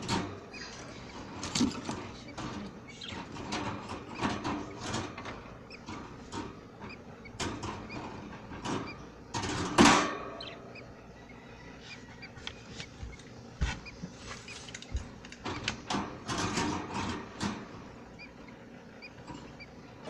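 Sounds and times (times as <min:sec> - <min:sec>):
budgerigars chirping: 0:00.0 - 0:20.0.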